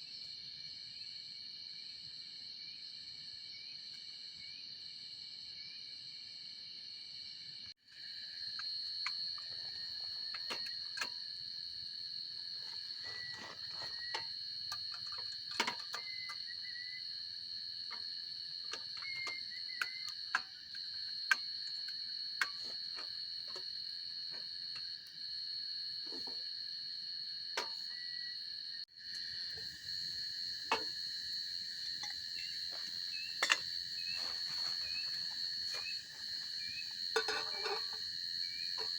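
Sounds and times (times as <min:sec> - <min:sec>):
crickets trilling: 0:00.1 - 0:38.9.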